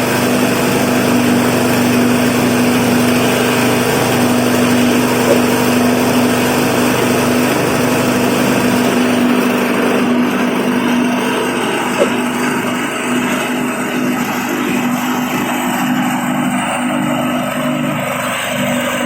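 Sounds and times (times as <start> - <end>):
grinding machine humming: 0.0 - 19.0.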